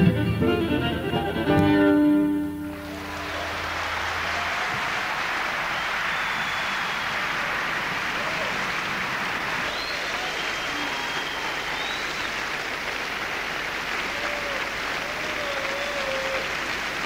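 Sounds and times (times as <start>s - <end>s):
audience applauding: 2.7s - 17.0s.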